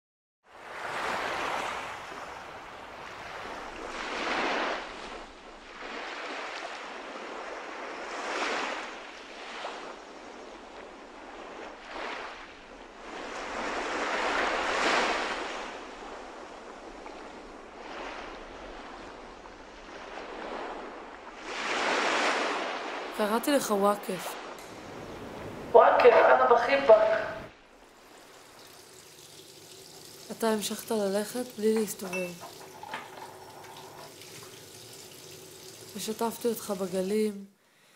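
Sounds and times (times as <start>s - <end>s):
sea waves breaking: 0.5s - 37.9s.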